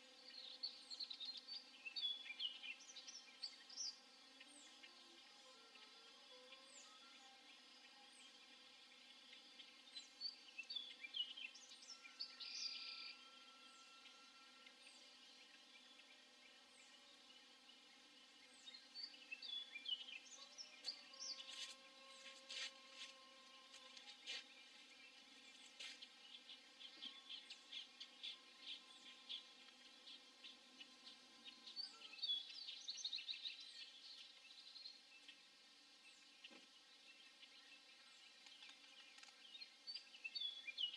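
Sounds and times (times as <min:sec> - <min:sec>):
birds chirping: 0:00.0 - 0:40.9
faint steady hum: 0:00.0 - 0:40.9.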